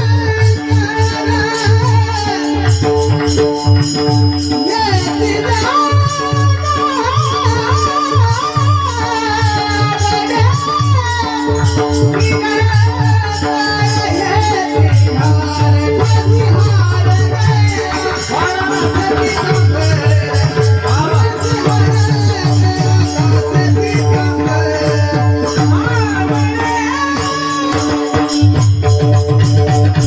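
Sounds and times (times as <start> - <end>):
hand drum beat: 0.0 - 30.0
harmonium drone: 0.0 - 30.0
person singing devotional melody: 0.0 - 30.0
small cymbals jingling: 0.0 - 30.0.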